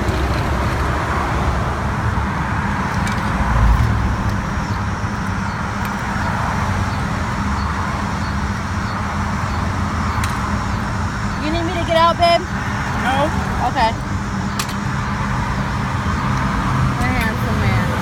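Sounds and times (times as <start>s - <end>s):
highway traffic rumble: 0.0s - 18.0s
vehicle passing loudly: 0.0s - 18.0s.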